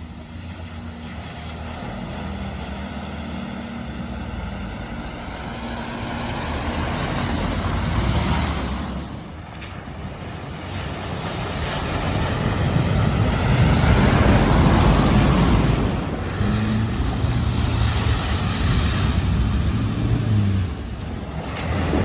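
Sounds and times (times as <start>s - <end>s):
vehicle engine: 0.0s - 22.0s
water rushing and splashing: 0.0s - 22.0s.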